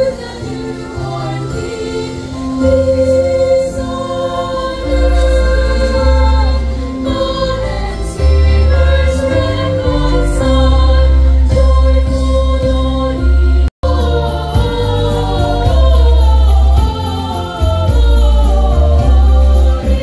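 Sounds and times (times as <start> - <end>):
choir singing in parts: 0.0 - 20.0.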